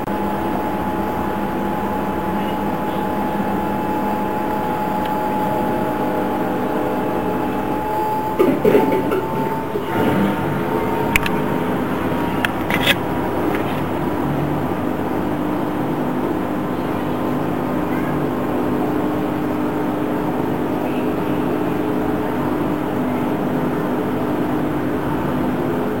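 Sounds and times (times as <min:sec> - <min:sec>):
washing machine spin cycle: 0:00.0 - 0:26.0.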